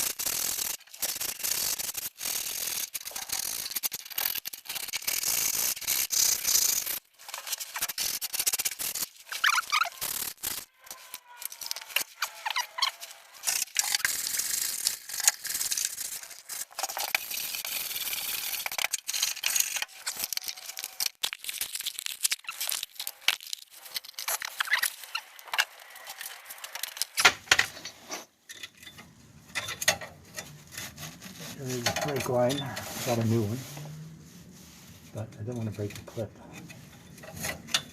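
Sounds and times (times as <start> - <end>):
small clicks and rattles: 0.0 - 32.6
hand scraping and rubbing: 4.6 - 20.9, 22.4 - 37.9.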